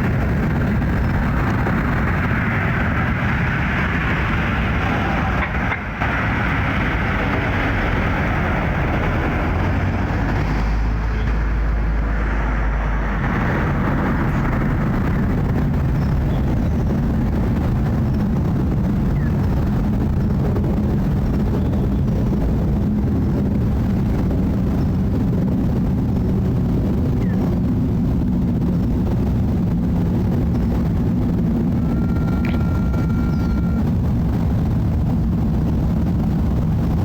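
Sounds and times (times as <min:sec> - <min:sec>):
jet airliner flying overhead: 0:00.0 - 0:37.0.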